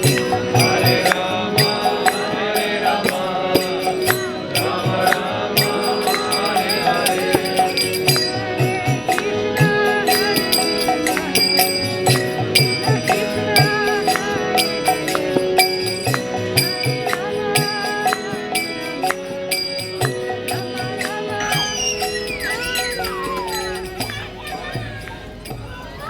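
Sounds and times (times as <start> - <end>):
held organ-like notes: 0.0 - 25.8
hand drum beating: 0.0 - 25.9
jingling percussion: 0.0 - 26.0.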